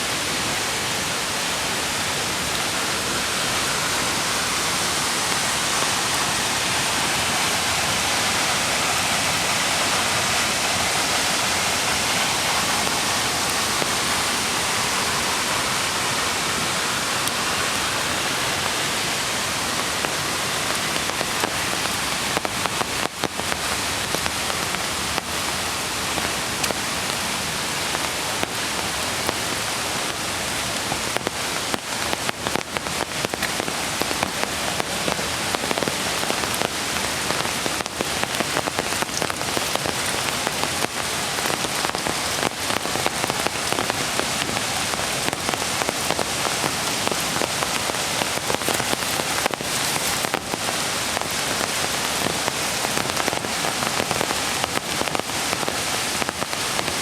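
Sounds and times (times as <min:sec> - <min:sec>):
creek water flowing: 0:00.0 - 0:57.0
rain: 0:00.0 - 0:57.0
raindrops pattering on surfaces: 0:00.0 - 0:57.0.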